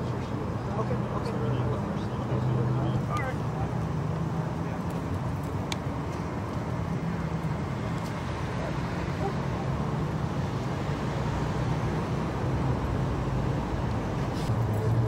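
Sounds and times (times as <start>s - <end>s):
traffic engine drone: 0.0s - 15.0s.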